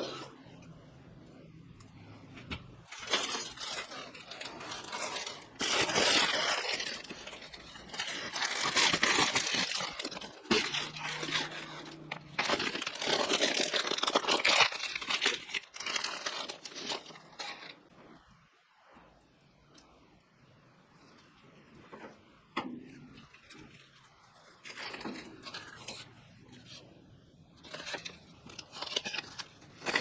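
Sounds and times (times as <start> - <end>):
crinkling and rustling: 0.0 - 30.0.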